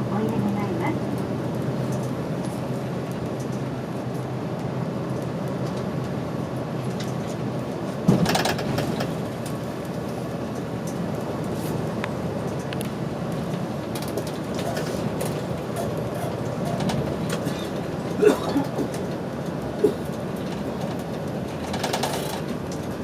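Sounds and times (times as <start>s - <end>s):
bus engine hum: 0.0s - 23.0s
road noise: 0.0s - 23.0s.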